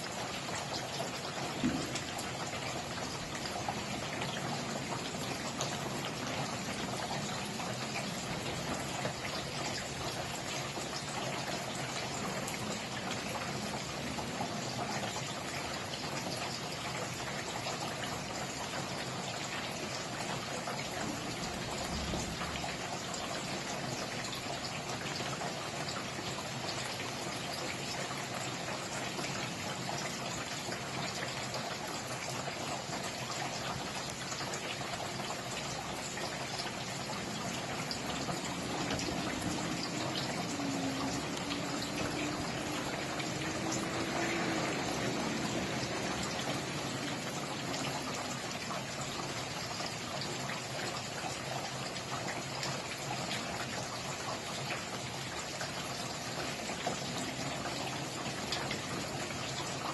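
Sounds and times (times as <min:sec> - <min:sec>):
steady rain falling: 0:00.0 - 0:59.9
water trickling and running: 0:00.0 - 0:59.9.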